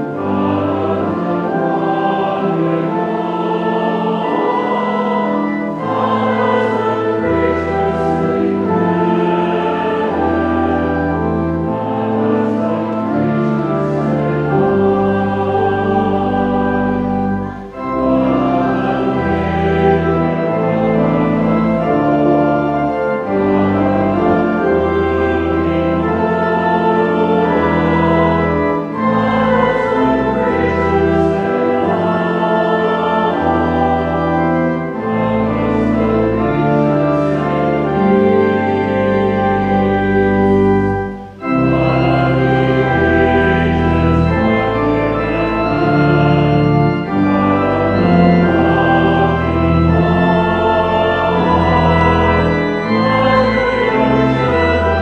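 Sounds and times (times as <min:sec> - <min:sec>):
pipe organ playing a hymn: 0:00.0 - 0:55.0.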